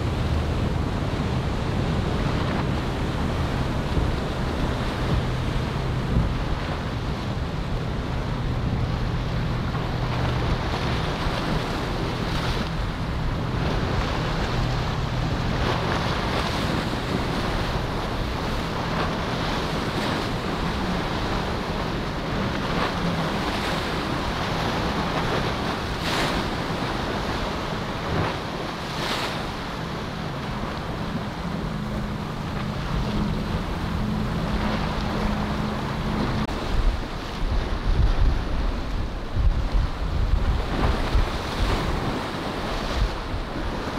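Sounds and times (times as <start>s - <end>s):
boat engines humming: 0.0s - 43.9s
surf: 0.0s - 43.9s
wind noise on microphone: 0.0s - 43.9s.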